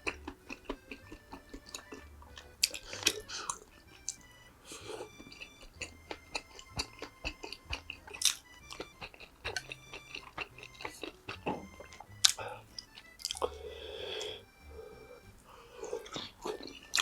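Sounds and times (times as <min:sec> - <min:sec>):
faint background music: 0:00.0 - 0:17.0
person chewing: 0:00.0 - 0:17.0.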